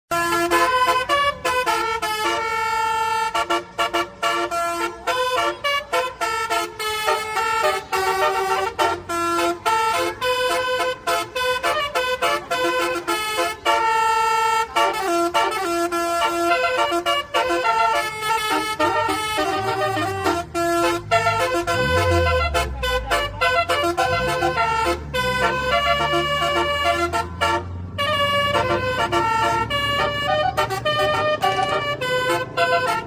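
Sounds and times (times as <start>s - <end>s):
multi-tone bus horn playing a tune: 0.1s - 33.0s.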